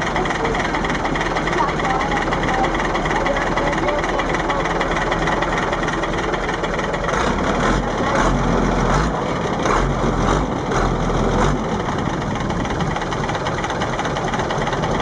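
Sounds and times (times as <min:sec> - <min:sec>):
boat engine running: 0:00.0 - 0:15.0
low rumble: 0:00.0 - 0:15.0.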